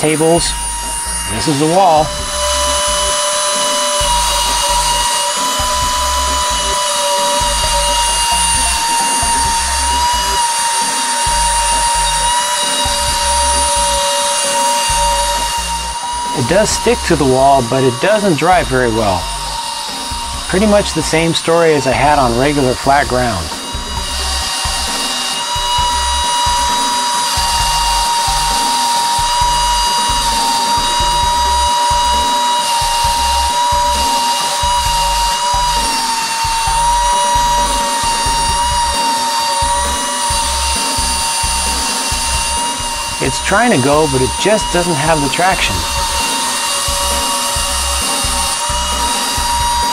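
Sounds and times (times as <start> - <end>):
low pulsing bass: 0.0 - 14.2, 14.8 - 49.9
low hum: 0.0 - 49.9
toy suction fan whine: 0.0 - 49.9.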